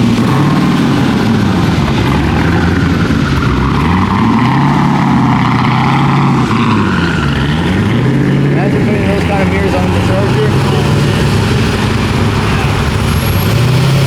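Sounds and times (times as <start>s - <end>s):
car engine running: 0.0s - 14.0s
road and wind noise: 0.0s - 14.0s.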